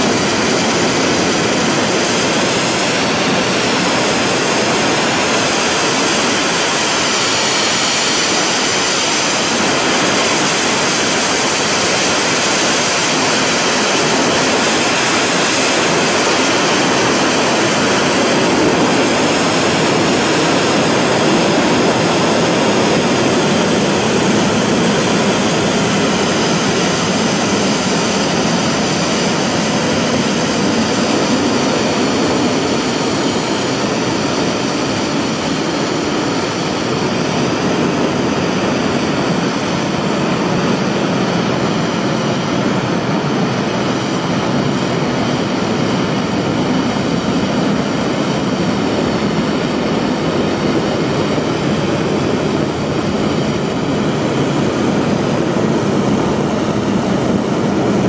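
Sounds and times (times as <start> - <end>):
rocket engine roaring: 0.0 - 58.0.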